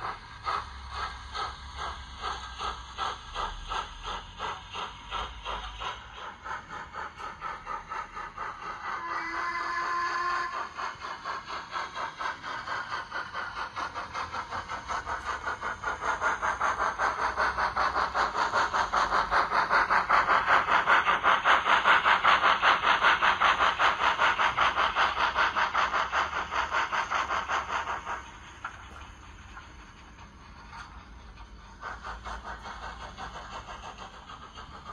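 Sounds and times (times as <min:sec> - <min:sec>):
model steam locomotive chuffing: 0:00.0 - 0:34.9.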